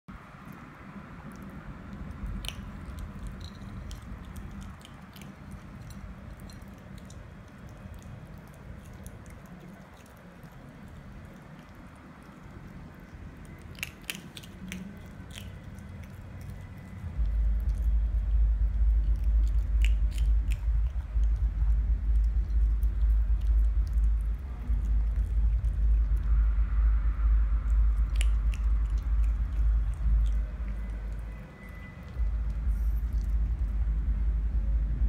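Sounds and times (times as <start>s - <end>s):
otter chewing kibble: 0.3s - 34.4s.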